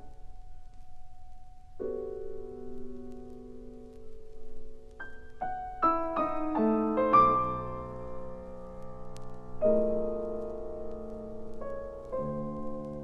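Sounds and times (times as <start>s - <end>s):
solo piano: 0.0s - 13.0s.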